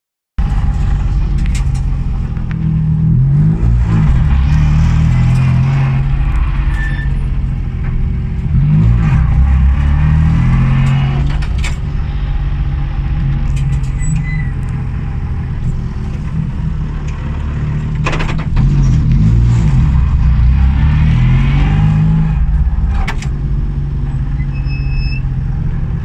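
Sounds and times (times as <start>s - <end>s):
rally car engine running: 0.4s - 26.0s.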